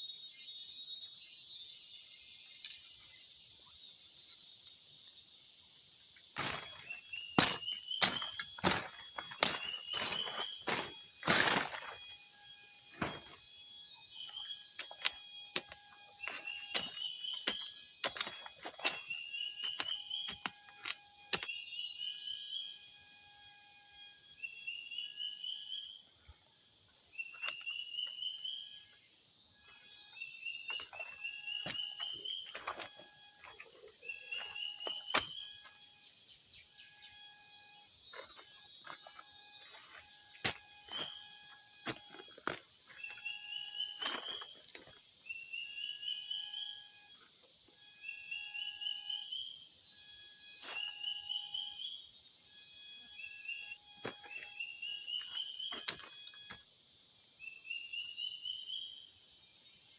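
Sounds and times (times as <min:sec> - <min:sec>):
high-pitched insect buzz: 0:00.0 - 0:59.9
low steady insect tone: 0:00.0 - 0:59.9
rising pulsed insect call: 0:00.0 - 0:59.9.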